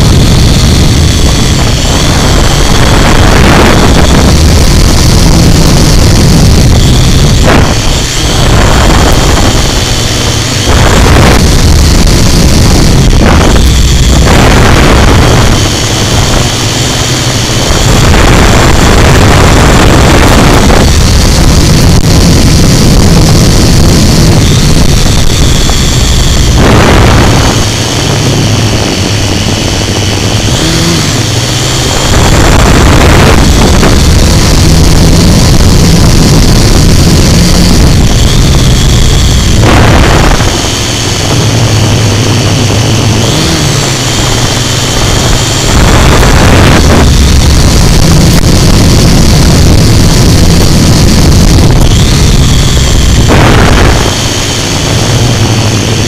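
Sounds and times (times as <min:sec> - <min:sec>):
drone propellers whining: 0:00.0 - 0:56.0
wind noise rush: 0:00.0 - 0:56.0.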